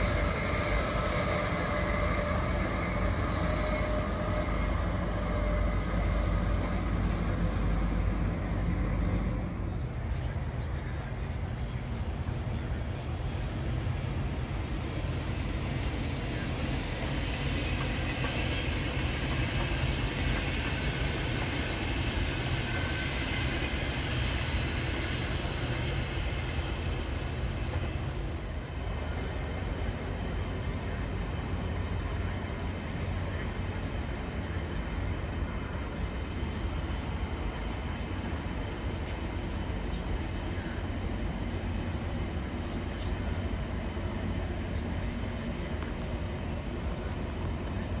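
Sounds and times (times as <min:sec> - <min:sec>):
passenger train rolling: 0:00.0 - 0:48.0.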